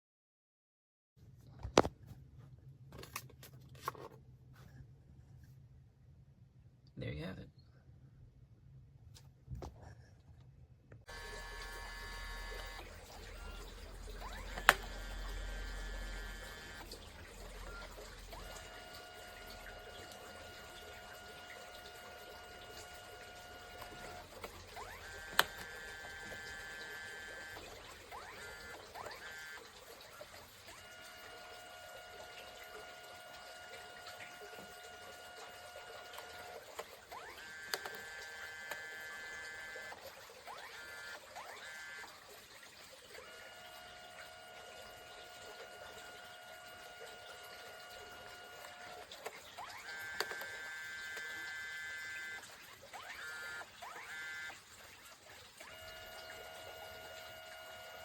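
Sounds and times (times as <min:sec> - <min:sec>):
printer motor whine: 0:11.0 - 0:58.0.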